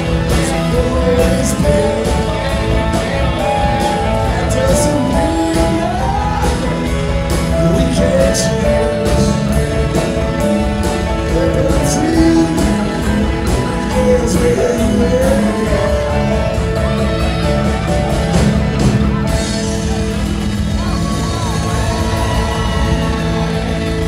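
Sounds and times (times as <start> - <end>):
bass: 0.0 - 24.0
drums: 0.0 - 24.0
electric guitars: 0.0 - 24.0
keyboards: 0.0 - 24.0
sliding lead melody: 0.0 - 24.0.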